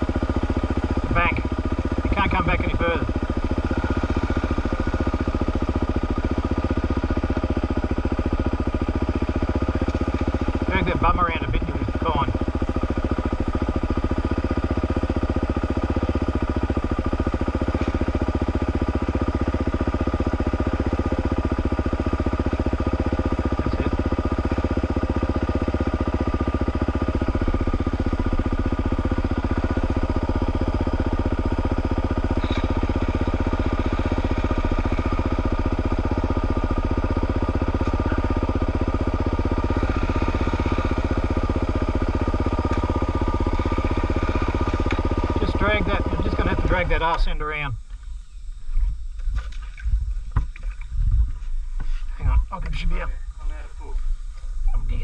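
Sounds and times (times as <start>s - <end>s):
dirt bike engine idling: 0.0s - 55.0s.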